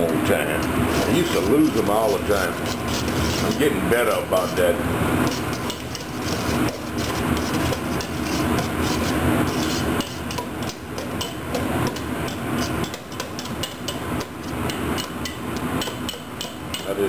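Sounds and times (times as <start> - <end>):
onions sizzling in a pot: 0.0 - 17.0
tongs scraping and clinking on pot: 0.0 - 17.0.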